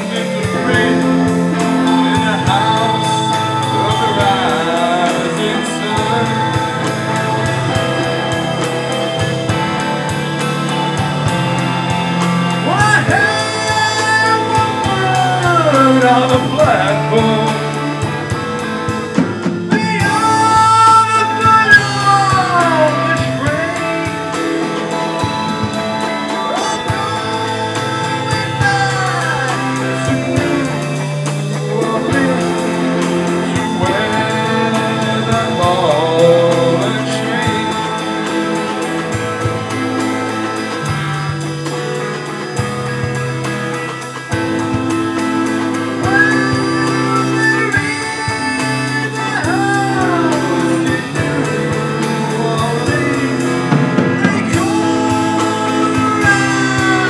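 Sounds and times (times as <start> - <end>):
man singing into microphone: 0.0 - 9.6, 11.2 - 40.5, 44.3 - 57.0
acoustic guitar: 0.0 - 57.0
drum kit: 0.0 - 57.0
electric guitar: 0.0 - 57.0
keyboard: 0.0 - 57.0.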